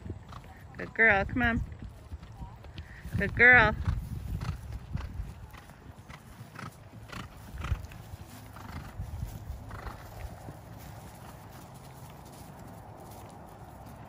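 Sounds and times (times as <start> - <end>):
horse hoofbeats on grass: 0.0 - 14.0.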